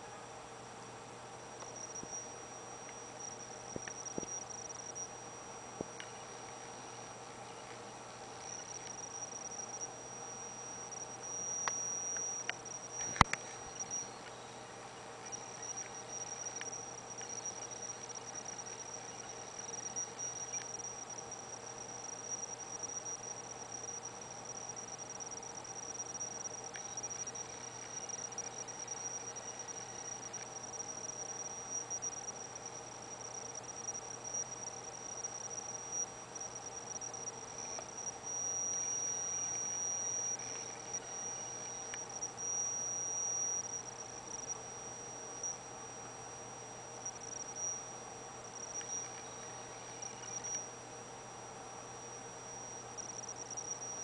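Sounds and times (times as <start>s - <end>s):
servo motor high-pitched whine: 1.6s - 7.1s, 8.4s - 14.5s, 15.3s - 45.7s, 47.0s - 50.8s.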